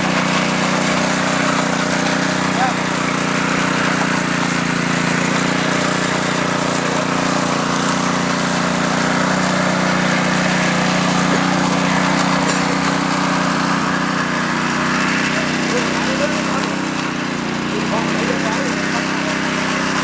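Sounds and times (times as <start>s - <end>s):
power trowel engine running: 0.0s - 20.0s.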